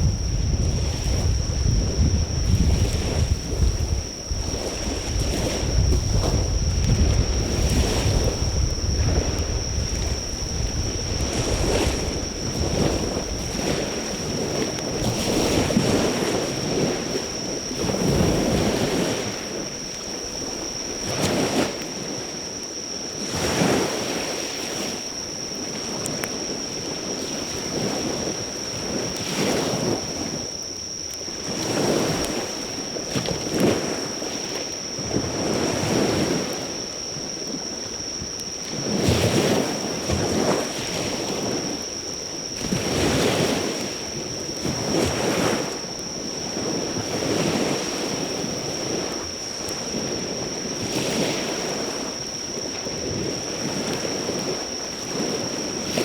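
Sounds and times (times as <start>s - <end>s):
insects chirring: 0.0s - 56.0s
sea waves breaking on shore: 0.0s - 56.0s.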